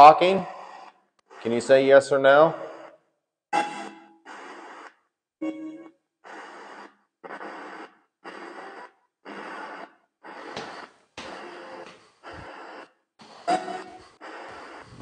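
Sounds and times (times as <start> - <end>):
static bursts: 0.7 - 2.9, 3.6 - 15.0.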